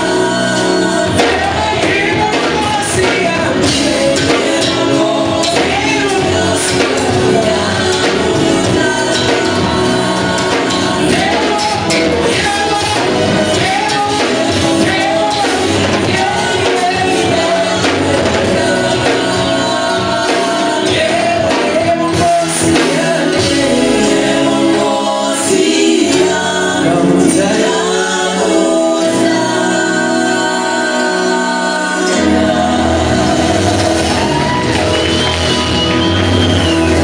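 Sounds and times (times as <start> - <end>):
amplified instrumental music with beat: 0.0 - 37.0
backing singers: 0.0 - 37.0
male lead singer: 0.0 - 37.0.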